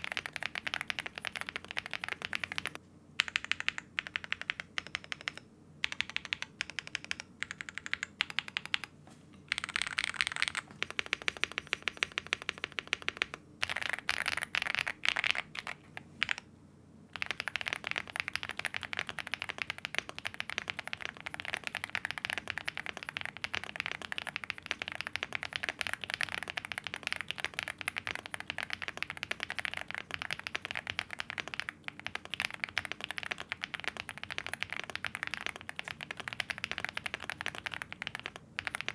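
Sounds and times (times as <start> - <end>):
fast typing on mechanical keyboard: 0.0 - 8.9, 9.5 - 16.4, 17.1 - 38.9.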